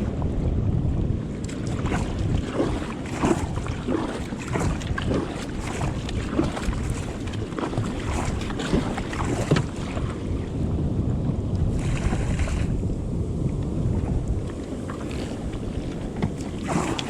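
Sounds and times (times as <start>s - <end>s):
wind buffeting microphone: 0.0s - 17.0s
water sloshing and splashing: 1.2s - 10.6s, 11.6s - 12.9s, 13.6s - 17.0s.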